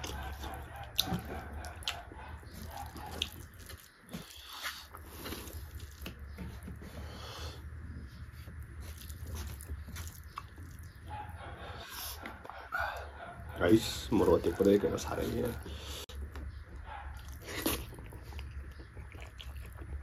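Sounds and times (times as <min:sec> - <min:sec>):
person chewing food: 0:00.0 - 0:13.6, 0:14.5 - 0:20.0.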